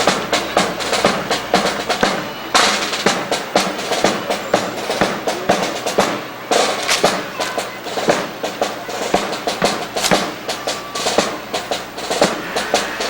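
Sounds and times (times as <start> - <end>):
sharp crisp drill clacks: 0.0 - 13.0.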